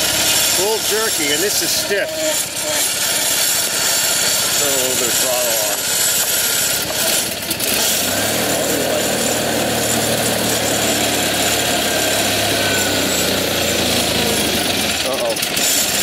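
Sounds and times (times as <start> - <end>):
garden tractor engine running: 0.0 - 16.0.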